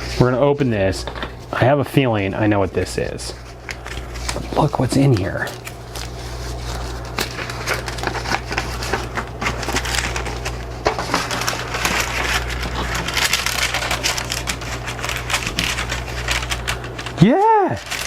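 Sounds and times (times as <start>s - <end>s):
stiff paper packaging crackling: 0.0s - 18.0s.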